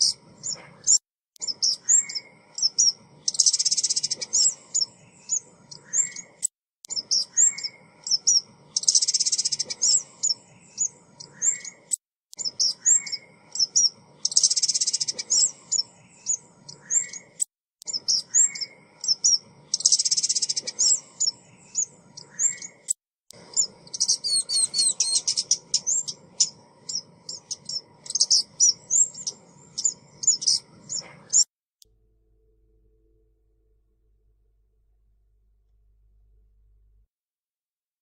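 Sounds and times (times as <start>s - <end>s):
songbird chirps and buzzy trills: 0.0s - 31.4s.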